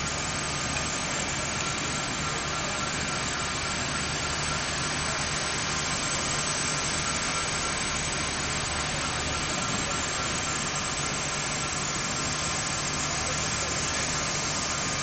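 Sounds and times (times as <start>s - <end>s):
vehicles idling: 0.0s - 15.0s.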